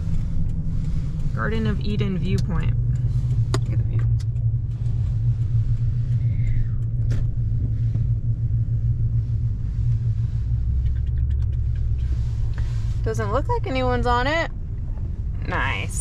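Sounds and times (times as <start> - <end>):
road and engine rumble in truck cab: 0.0 - 16.0.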